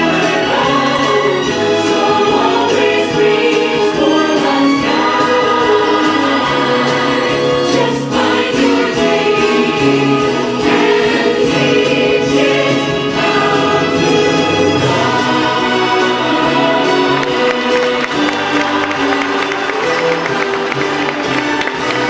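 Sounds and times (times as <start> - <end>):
ensemble singing in chorus: 0.0 - 22.0
orchestral music: 0.0 - 22.0.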